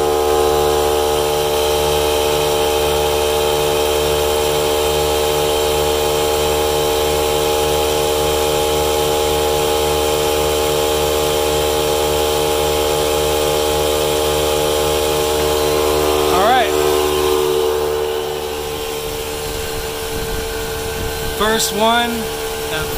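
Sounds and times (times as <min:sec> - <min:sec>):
air compressor running: 0:00.0 - 0:22.9.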